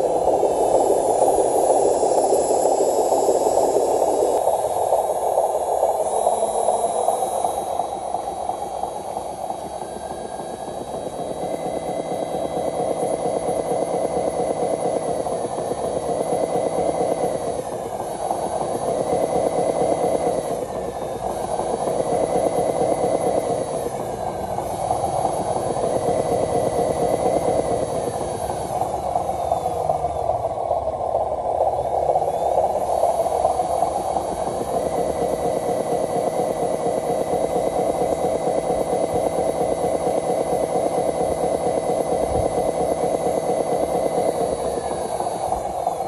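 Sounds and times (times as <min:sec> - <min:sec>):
motor whine changing pitch: 0:00.0 - 0:46.0
toy truck motor buzzing: 0:00.0 - 0:46.0.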